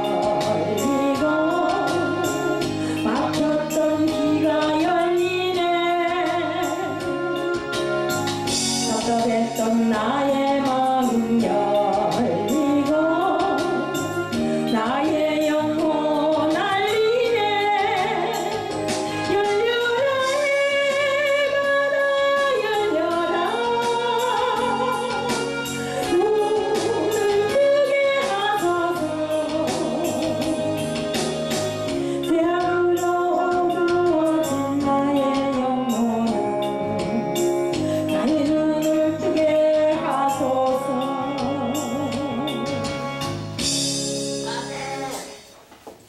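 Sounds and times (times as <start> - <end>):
gospel praise song: 0.0 - 45.5.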